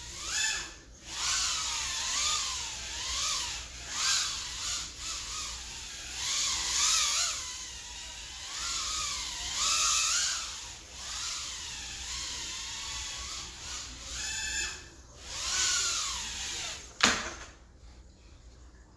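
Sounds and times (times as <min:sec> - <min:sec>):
drone motors whining: 0:00.0 - 0:17.2.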